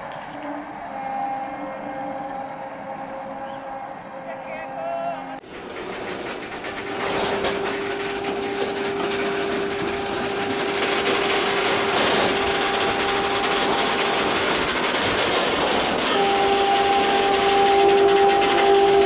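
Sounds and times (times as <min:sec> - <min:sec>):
steady locomotive tone: 0:00.0 - 0:19.0
train wheel and rail noise: 0:00.0 - 0:19.0.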